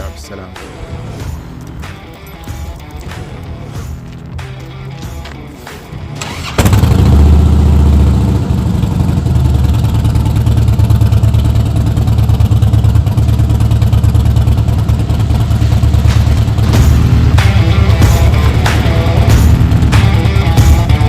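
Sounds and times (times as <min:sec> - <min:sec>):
motorcycle engine idling: 0:00.8 - 0:21.0.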